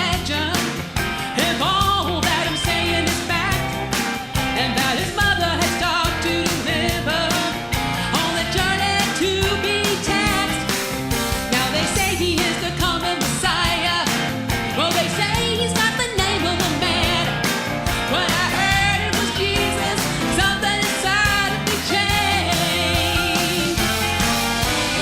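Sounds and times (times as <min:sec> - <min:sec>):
band with steady drum beat: 0:00.0 - 0:25.0
vocal group singing: 0:00.0 - 0:25.0.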